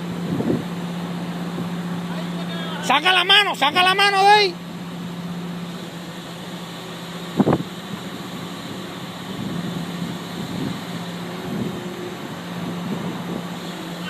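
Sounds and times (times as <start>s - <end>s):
crane engine humming: 0.0s - 14.0s.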